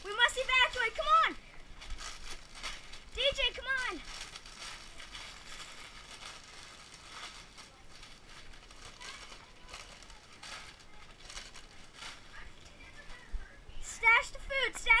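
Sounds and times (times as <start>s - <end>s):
food packages crinkling: 0.0s - 13.3s.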